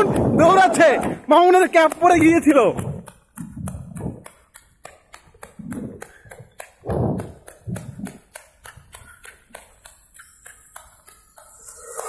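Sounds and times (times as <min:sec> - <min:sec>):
running footsteps on wet asphalt: 0:00.0 - 0:11.6.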